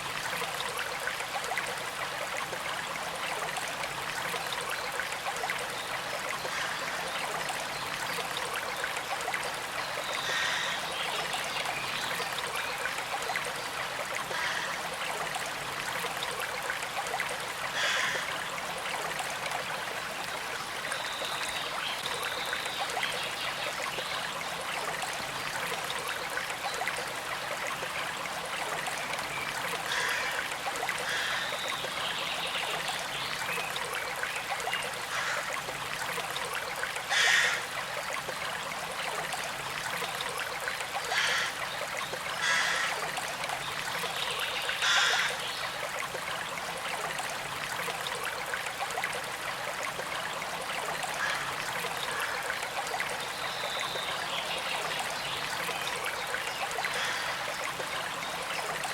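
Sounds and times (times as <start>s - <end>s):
creek trickling: 0.0s - 58.9s.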